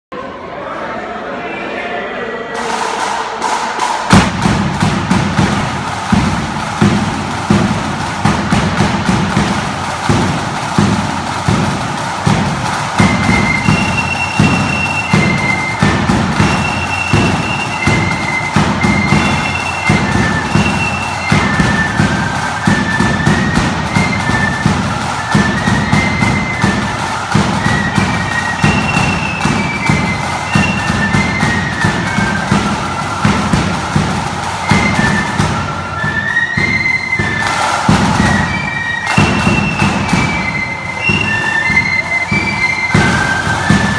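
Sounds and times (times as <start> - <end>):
marching side drums: 2.6 - 43.9
flute melody: 3.4 - 43.9.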